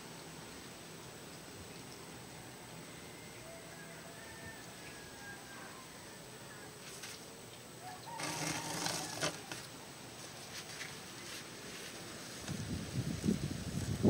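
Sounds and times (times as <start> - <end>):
faint background noise: 0.0 - 14.0.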